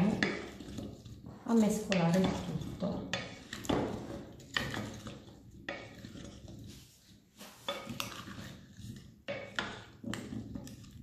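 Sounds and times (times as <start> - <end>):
wet food scraping and sliding: 0.0 - 11.0.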